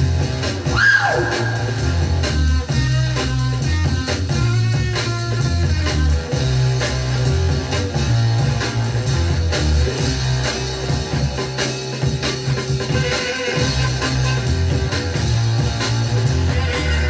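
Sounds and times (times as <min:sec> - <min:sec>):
funk music on turntable: 0:00.0 - 0:17.0.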